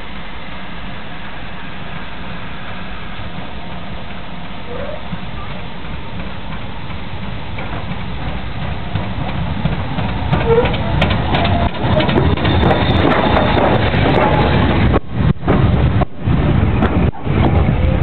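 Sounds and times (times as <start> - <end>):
steam locomotive rumbling: 0.0 - 18.0
train clanks: 1.6 - 18.0.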